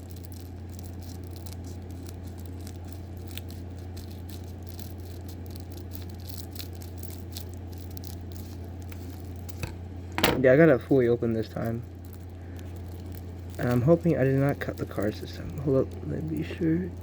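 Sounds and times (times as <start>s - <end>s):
wrapper crinkling: 0.0s - 9.8s, 10.4s - 17.0s
low electrical hum: 0.0s - 17.0s.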